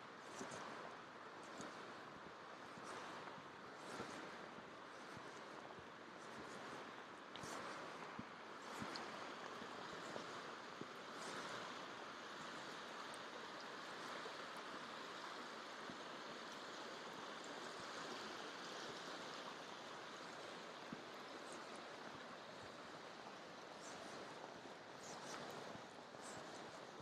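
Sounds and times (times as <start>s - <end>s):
faint creek water rushing: 0.0s - 27.0s.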